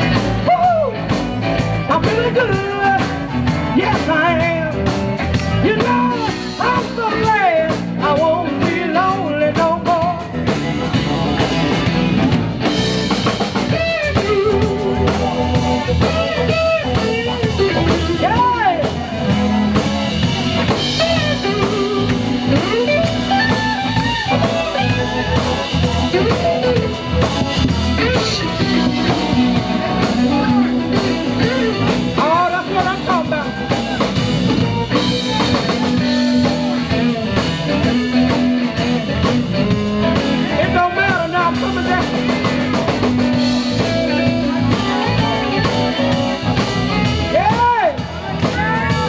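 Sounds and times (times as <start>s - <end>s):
live blues band playing: 0.0s - 49.0s
pitch-bending guitar or voice line: 0.0s - 49.0s.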